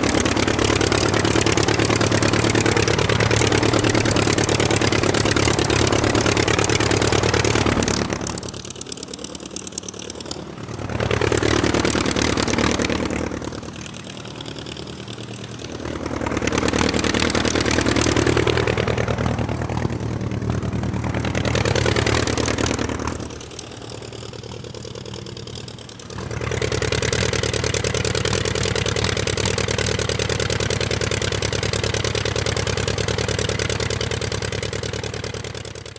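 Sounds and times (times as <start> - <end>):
propeller aircraft engine: 0.0 - 35.9.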